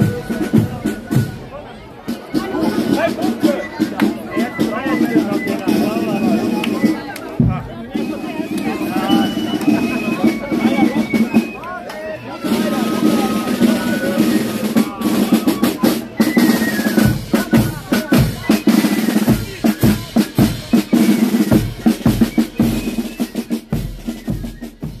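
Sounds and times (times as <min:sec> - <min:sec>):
snare drum beats and rolls: 0:00.0 - 0:01.5, 0:02.1 - 0:25.0.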